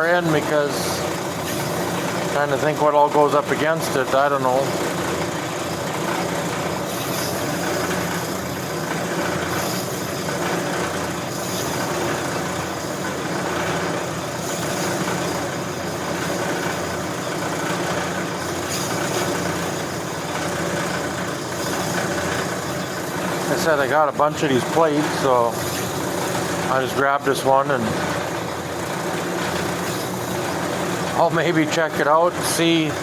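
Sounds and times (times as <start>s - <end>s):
brake lathe cutting steel: 0.0s - 33.0s.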